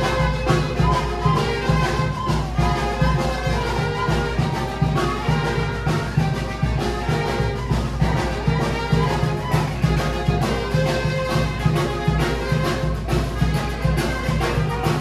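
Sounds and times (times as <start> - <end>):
brass band dance music: 0.0 - 15.0.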